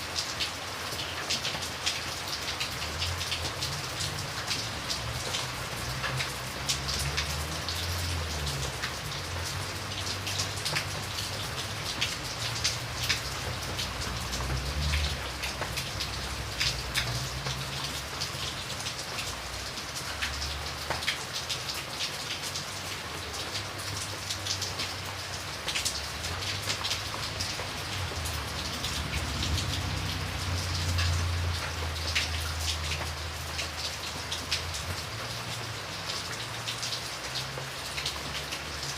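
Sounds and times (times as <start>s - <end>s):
raindrops ticking on a surface: 0.0s - 38.9s
steady rain falling: 0.0s - 38.9s.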